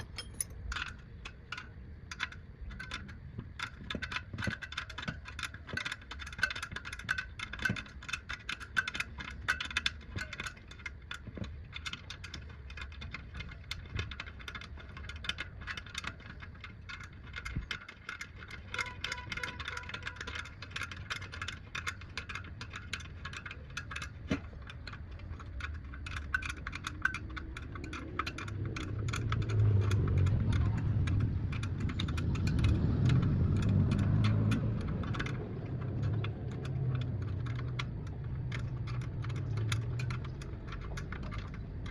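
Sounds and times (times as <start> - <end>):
metallic clicks and rattles: 0.0 - 41.9.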